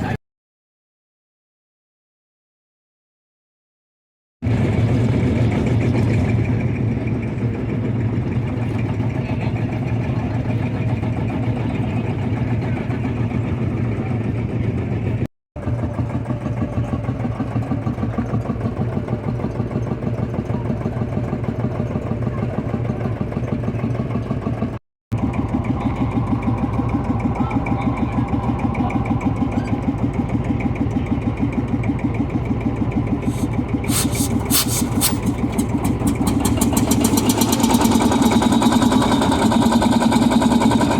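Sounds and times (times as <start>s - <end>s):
tractor engine running: 4.5s - 40.9s.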